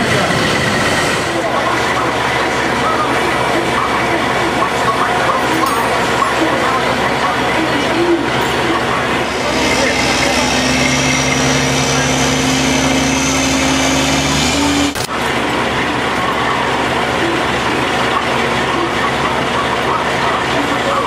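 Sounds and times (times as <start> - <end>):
crowd noise: 0.0 - 21.0
machinery humming with whine: 0.0 - 21.0
voices in background: 0.0 - 21.0.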